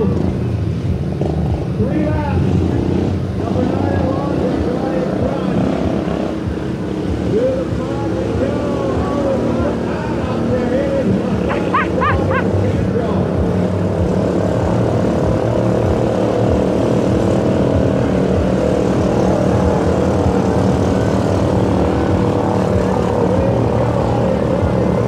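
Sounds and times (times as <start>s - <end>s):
drone propellers buzzing: 0.0s - 25.0s.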